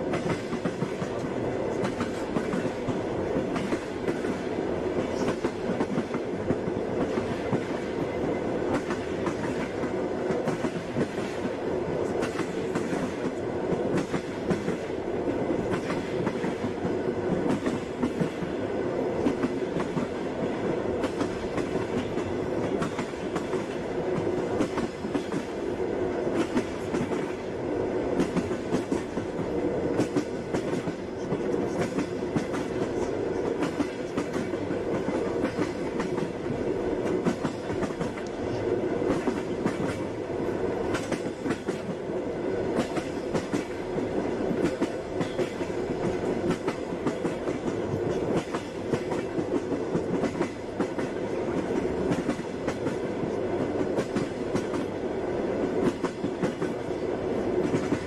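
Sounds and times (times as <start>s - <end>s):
train carriage rumbling: 0.0s - 58.0s.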